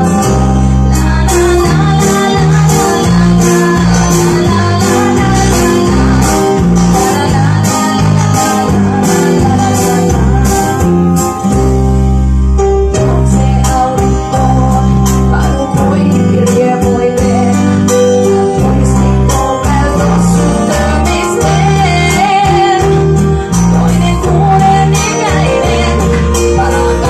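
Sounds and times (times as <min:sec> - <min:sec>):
person singing: 0:00.0 - 0:11.4, 0:12.9 - 0:27.0
bass: 0:00.0 - 0:27.0.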